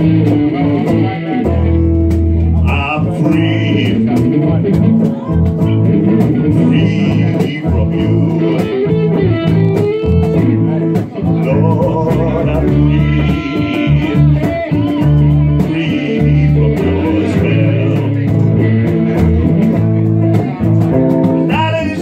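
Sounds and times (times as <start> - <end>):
bass guitar: 0.0 - 22.0
electric blues guitars: 0.0 - 22.0.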